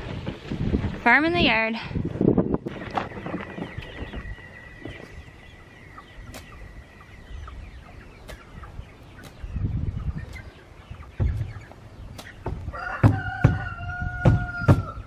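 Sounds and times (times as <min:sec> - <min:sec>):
low handling or wind rumble: 0:00.0 - 0:15.0
chickens clucking: 0:02.0 - 0:15.0.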